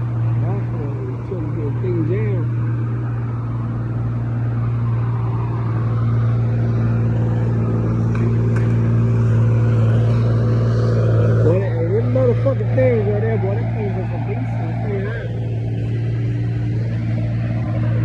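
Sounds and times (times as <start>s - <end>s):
heavy machine engine droning: 0.0s - 18.0s.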